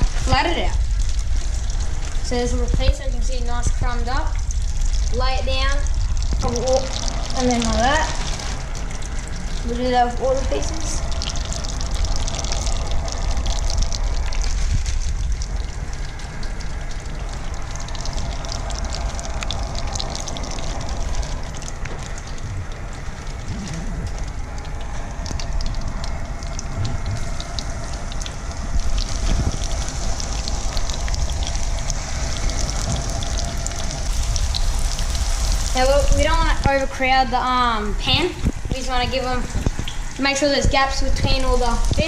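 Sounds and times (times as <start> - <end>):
fish sizzling in a frying pan: 0.0 - 42.0
low rumble: 0.0 - 42.0.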